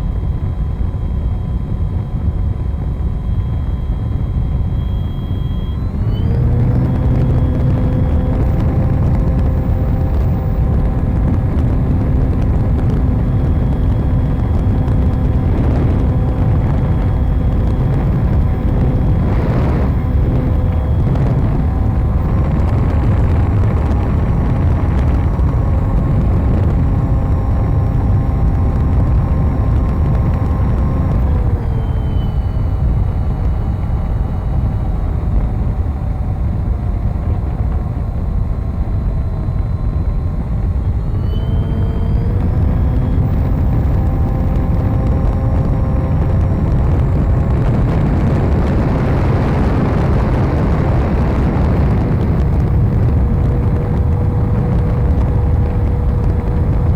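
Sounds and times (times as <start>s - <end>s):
model plane motor and propeller: 0.0s - 56.9s
wind rush over microphone: 0.0s - 56.9s.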